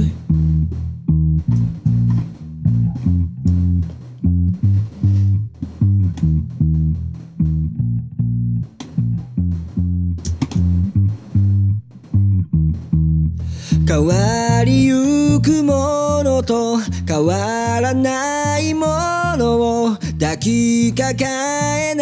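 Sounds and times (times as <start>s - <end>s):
plucked electric bass: 0.0s - 22.0s.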